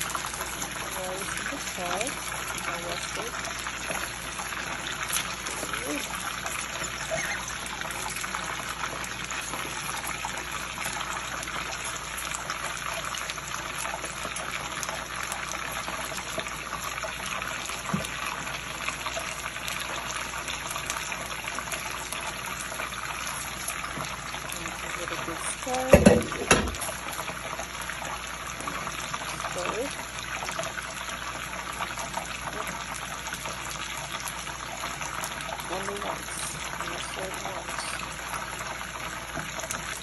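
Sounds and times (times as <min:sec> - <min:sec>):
pot boiling with watery bubbling: 0:00.0 - 0:40.0.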